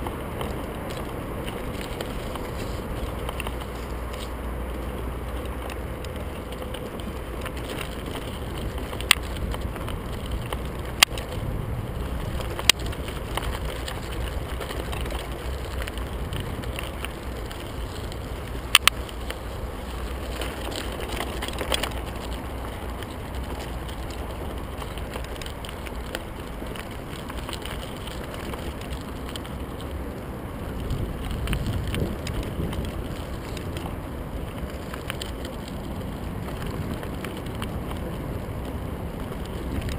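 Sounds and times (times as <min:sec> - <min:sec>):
bike clacking over bumps: 0:00.0 - 0:39.9
bike tyres crunching over gravel: 0:00.0 - 0:39.9.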